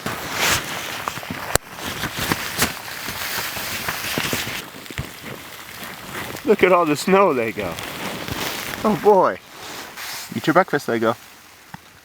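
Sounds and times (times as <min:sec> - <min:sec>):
crunching in snow: 0:00.0 - 0:12.0.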